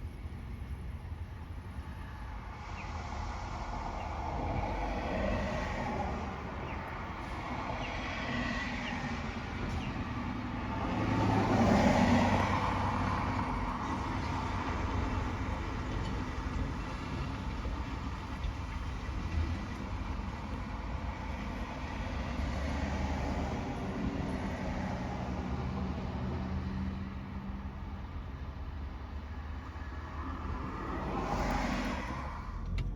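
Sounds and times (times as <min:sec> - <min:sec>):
heavy truck engines: 0:00.0 - 0:32.9
traffic noise: 0:00.0 - 0:32.9.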